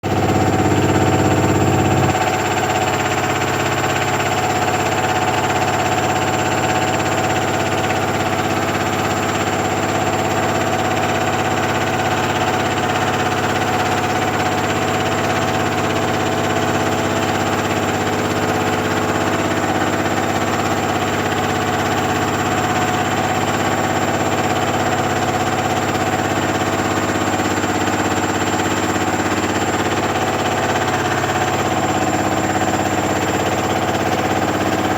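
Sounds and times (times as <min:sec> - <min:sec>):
washing machine drum spinning: 0:00.0 - 0:34.9.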